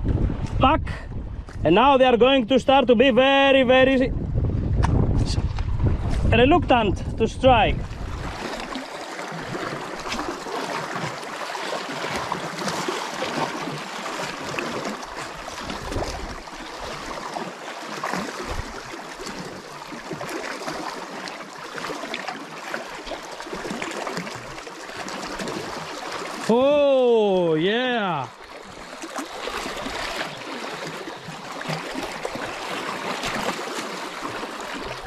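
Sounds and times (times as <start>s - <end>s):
waves lapping against rocks: 4.7s - 26.8s, 27.4s - 35.0s.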